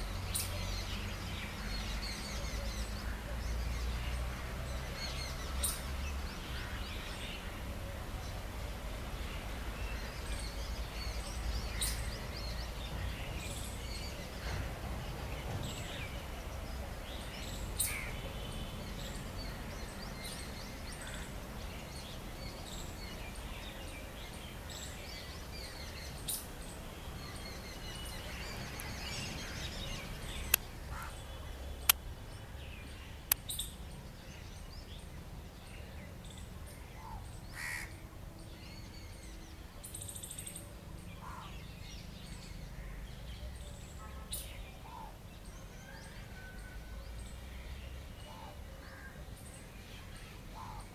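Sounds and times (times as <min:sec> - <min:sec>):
birds calling: 0:09.2 - 0:46.8, 0:47.5 - 0:50.9.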